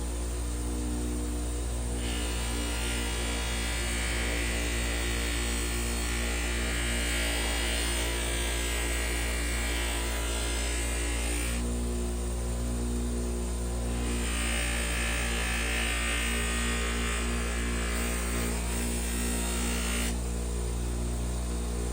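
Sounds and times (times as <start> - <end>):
small motor humming: 0.0 - 21.9.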